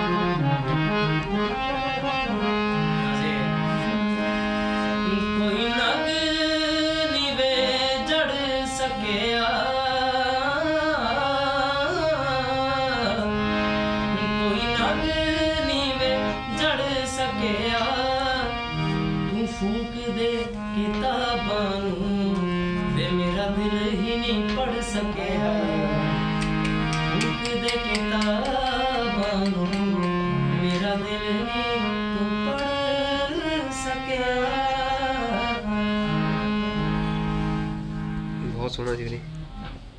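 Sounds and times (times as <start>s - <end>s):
harmonium held notes: 0.0s - 39.9s.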